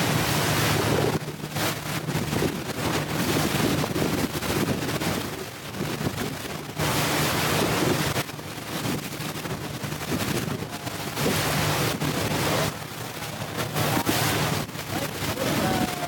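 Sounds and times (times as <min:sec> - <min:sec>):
boat engine humming: 0:00.0 - 0:16.0
water rushing along hull: 0:00.0 - 0:16.0
wind buffeting microphone: 0:00.0 - 0:16.0.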